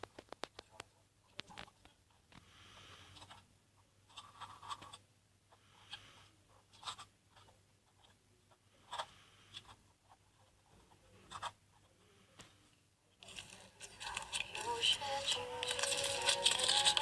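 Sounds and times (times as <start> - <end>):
quiet rustling: 0.0 - 17.0.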